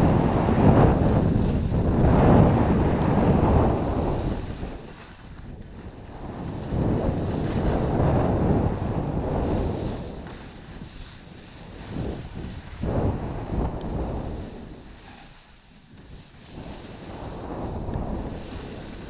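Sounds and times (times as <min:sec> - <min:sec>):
skis sliding over packed snow: 0:00.0 - 0:19.0
wind rushing over microphone: 0:00.0 - 0:19.0.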